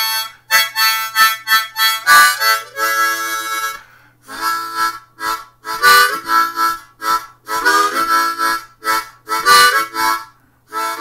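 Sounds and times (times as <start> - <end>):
harmonica playing boogie: 0.0 - 11.0.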